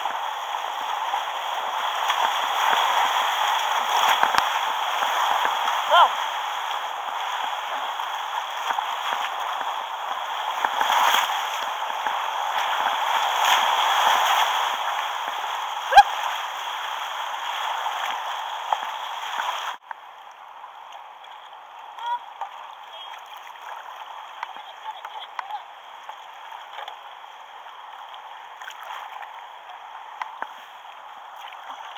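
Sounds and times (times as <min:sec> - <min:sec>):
river water rushing: 0:00.0 - 0:31.9.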